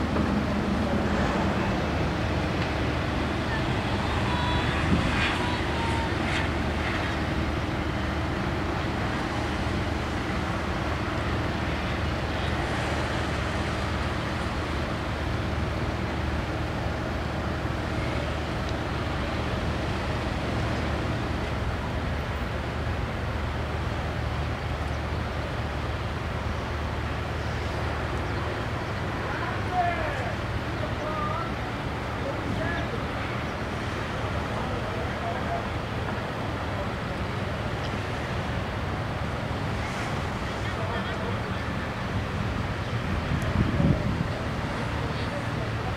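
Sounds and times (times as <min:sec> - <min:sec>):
low engine drone: 0:00.0 - 0:45.9.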